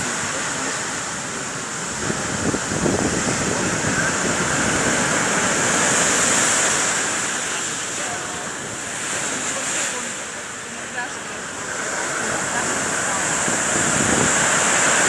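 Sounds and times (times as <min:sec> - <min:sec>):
surf breaking on shore: 0:00.0 - 0:15.0.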